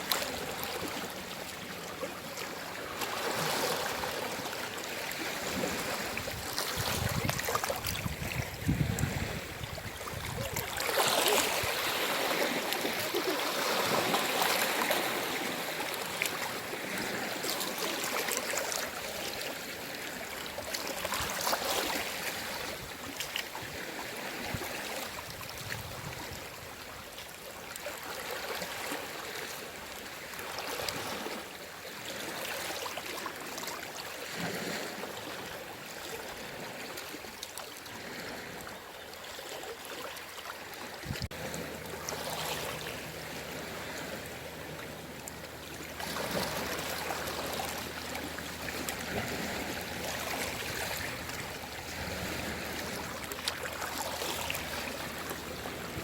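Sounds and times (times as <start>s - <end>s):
sea waves lapping ashore: 0.0s - 56.0s
waves breaking with fizzing splash: 0.0s - 56.0s.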